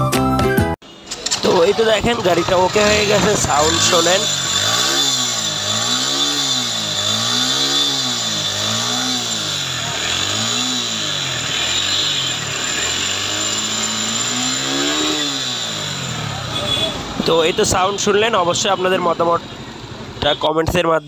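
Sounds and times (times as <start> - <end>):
motorcycle engine revving: 1.0 - 20.4.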